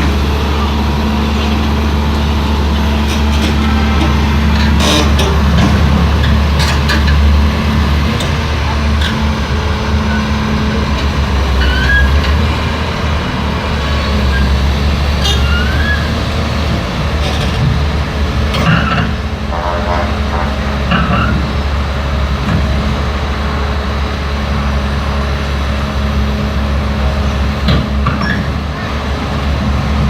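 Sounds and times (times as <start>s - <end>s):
excavator diesel engine humming: 0.0s - 30.0s.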